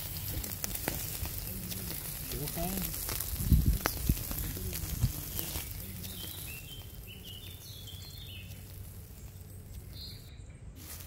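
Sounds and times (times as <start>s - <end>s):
low background rumble: 0.0s - 10.8s
bird chirping: 0.0s - 11.0s.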